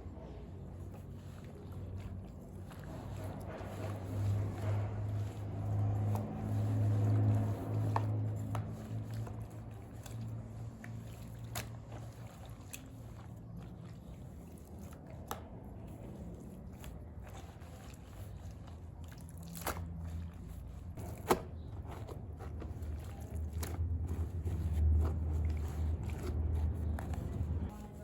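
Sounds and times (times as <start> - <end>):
low mechanical hum: 0.0 - 28.0
wet squishy handling sounds: 0.2 - 28.0.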